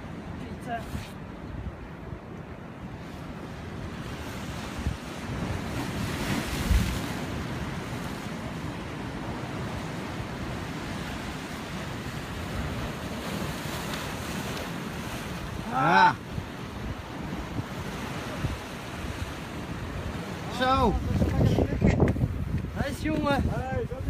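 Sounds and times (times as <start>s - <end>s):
wind on microphone: 0.0s - 24.0s
surf breaking against rocks: 3.8s - 23.6s.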